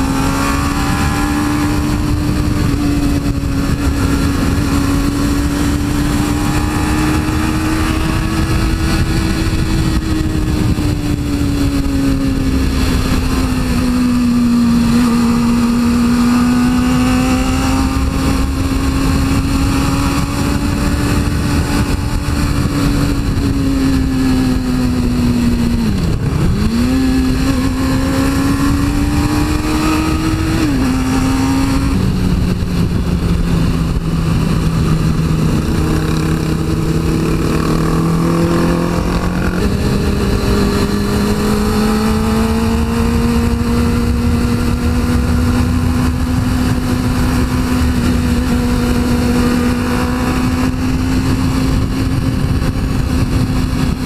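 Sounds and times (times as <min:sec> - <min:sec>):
heavy wind rush: 0:00.0 - 0:54.0
motorcycle engine revving: 0:00.0 - 0:54.0.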